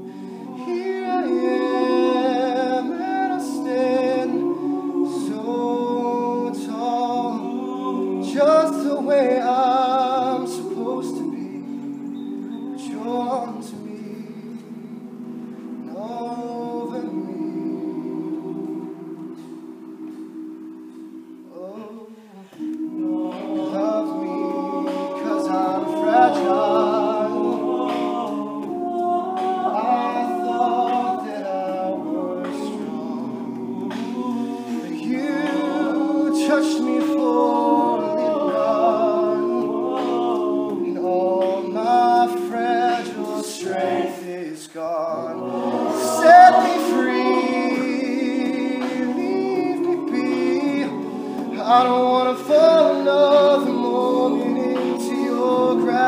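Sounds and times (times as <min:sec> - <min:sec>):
male backing voices holding chords: 0:00.0 - 0:56.0.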